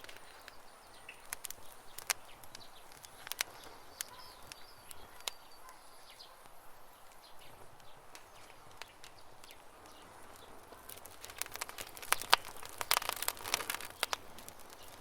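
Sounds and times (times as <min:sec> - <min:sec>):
sharp fire pops: 0:00.0 - 0:05.6, 0:06.4 - 0:15.0
birds chirping: 0:00.0 - 0:15.0
campfire crackling: 0:00.0 - 0:15.0.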